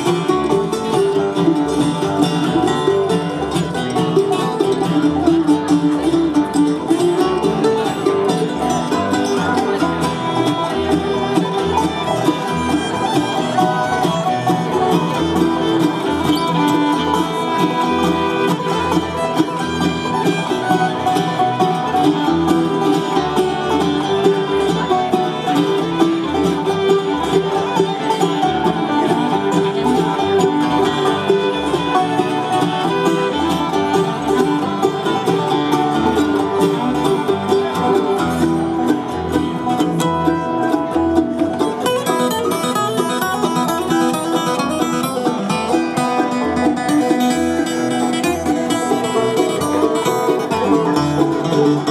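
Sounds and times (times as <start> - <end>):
bluegrass band playing: 0.0 - 51.9.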